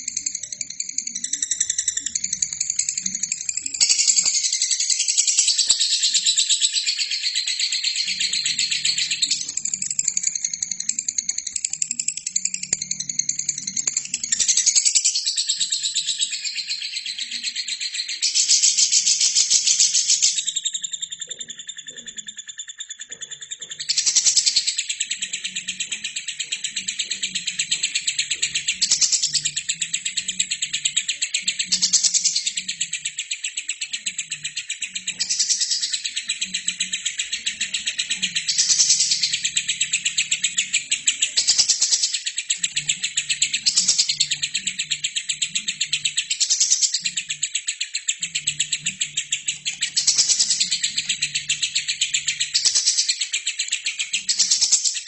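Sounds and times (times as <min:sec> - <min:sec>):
lovebird chattering trill: 0:00.0 - 0:55.0.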